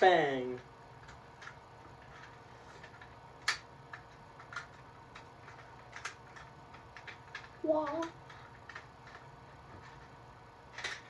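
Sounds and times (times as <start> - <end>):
faint clicks and taps: 0.6 - 10.2.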